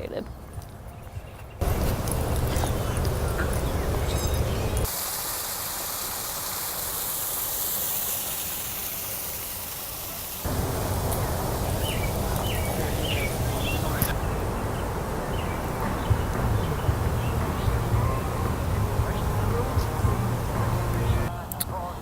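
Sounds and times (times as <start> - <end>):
steady high hiss: 1.6 - 21.7.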